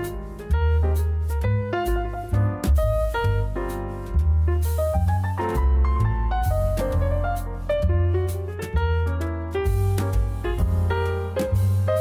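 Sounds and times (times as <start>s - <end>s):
deep bass line: 0.0s - 12.0s
drum hits: 0.1s - 12.0s.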